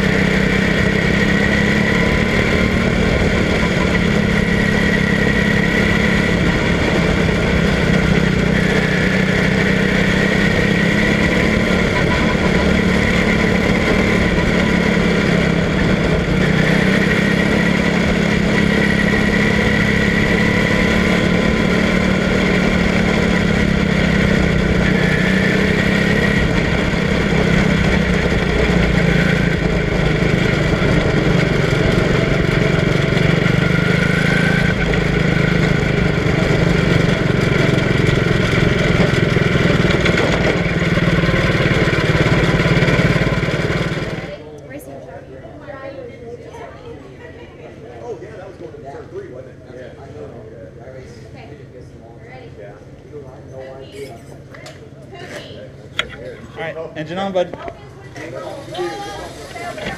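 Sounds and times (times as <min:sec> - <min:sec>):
race car engine running: 0:00.0 - 0:45.5, 0:54.4 - 0:59.9.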